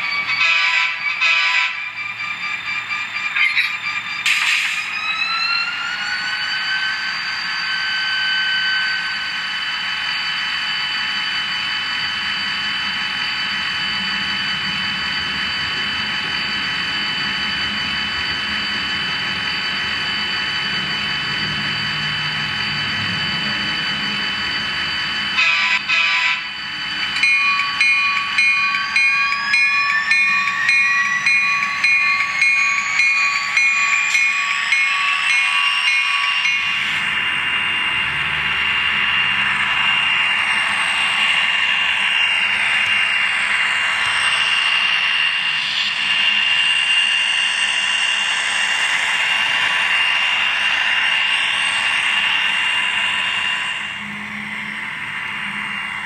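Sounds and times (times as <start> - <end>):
model diesel engine turbo whine: 1.4 - 56.0.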